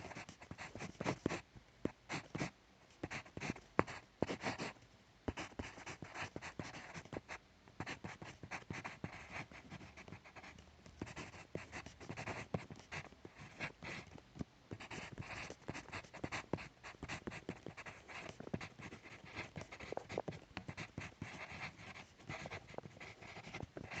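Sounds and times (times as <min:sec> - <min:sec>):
pencil writing on paper: 0:00.0 - 0:24.0.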